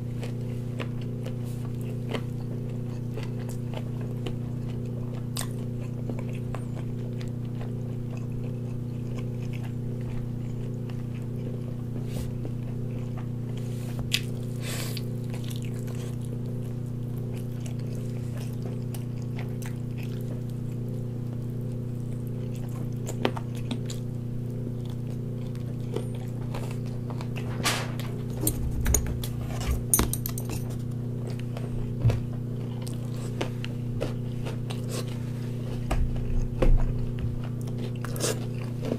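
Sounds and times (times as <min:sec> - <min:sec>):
low electrical hum: 0:00.0 - 0:38.9
meat being torn and chewed: 0:00.0 - 0:38.9.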